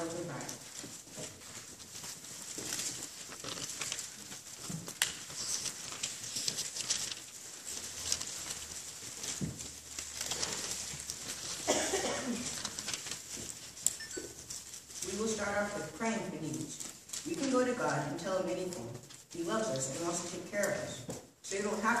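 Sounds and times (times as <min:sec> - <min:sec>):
pages rustling and flipping: 0:00.0 - 0:22.0.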